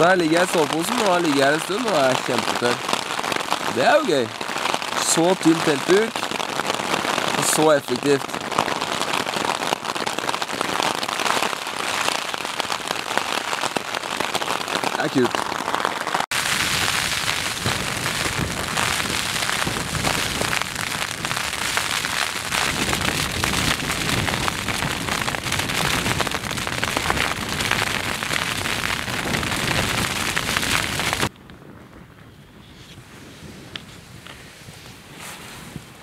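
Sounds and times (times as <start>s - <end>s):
heavy rain on tent flysheet: 0.0s - 36.0s.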